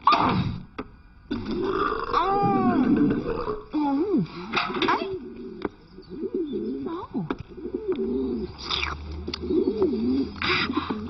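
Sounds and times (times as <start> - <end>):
pigeon cooing: 1.4 - 11.0.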